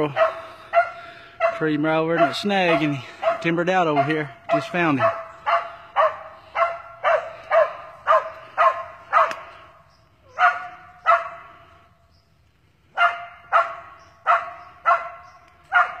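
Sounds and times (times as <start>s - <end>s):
dog barking: 0.0s - 9.5s, 10.3s - 11.4s, 12.9s - 16.0s.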